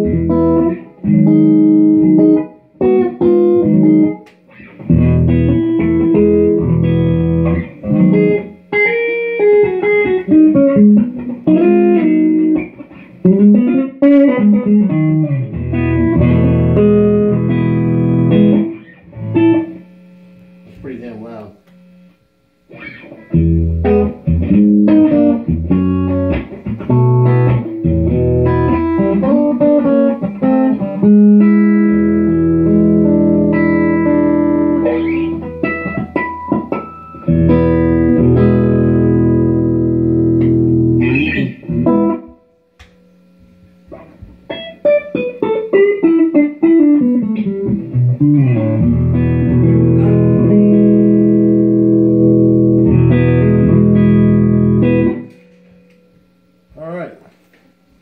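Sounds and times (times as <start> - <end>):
clean electric guitar playing: 0.0 - 56.7.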